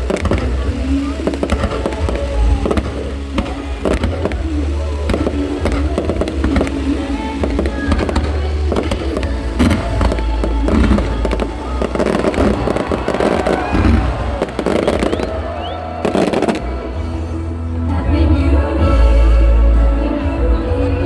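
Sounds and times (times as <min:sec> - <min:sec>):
fireworks bursting: 0:00.0 - 0:17.4
deep rumble: 0:00.0 - 0:19.8
music playing: 0:00.0 - 0:21.0.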